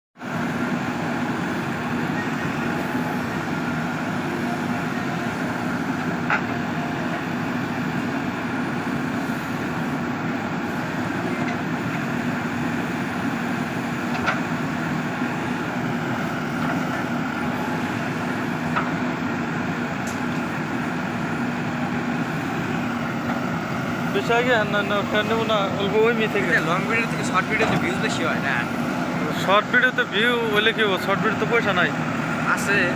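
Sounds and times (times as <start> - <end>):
diesel engine running: 0.2 - 32.9.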